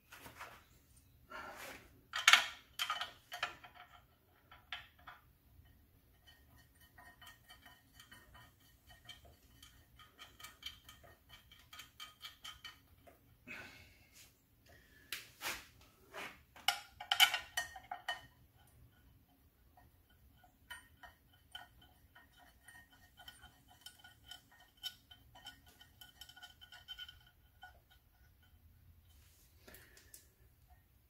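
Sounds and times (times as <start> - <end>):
metal clinks and knocks: 2.1 - 13.3, 16.6 - 31.0.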